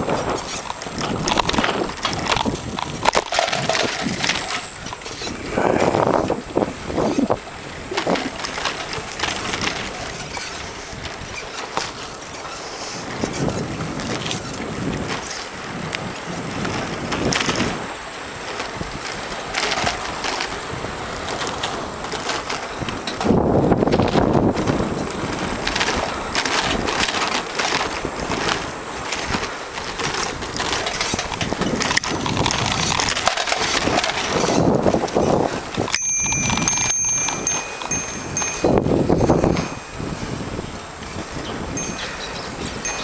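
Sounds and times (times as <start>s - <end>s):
bicycle tyres rolling on asphalt: 0.0s - 43.0s
bike clicks and rattles: 0.0s - 43.0s
rush of wind-like rumble: 0.0s - 43.0s
wind noise on microphone: 0.0s - 43.0s.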